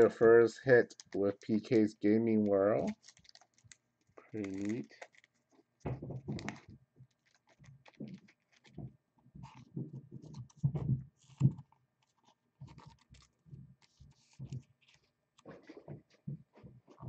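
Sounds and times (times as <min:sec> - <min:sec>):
cards and plastic holders handled: 0:00.7 - 0:17.0.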